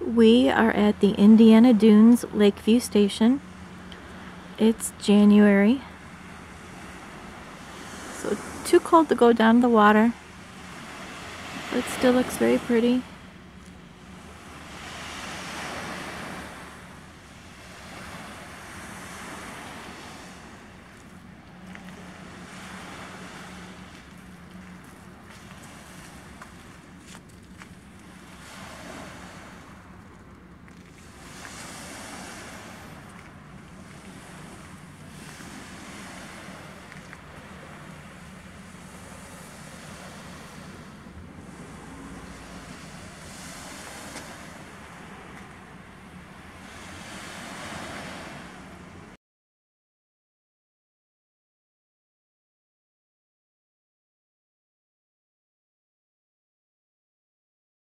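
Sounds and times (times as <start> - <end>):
distant surf: 0.0 - 49.2
low steady hum: 0.0 - 49.2
wind: 0.0 - 49.2.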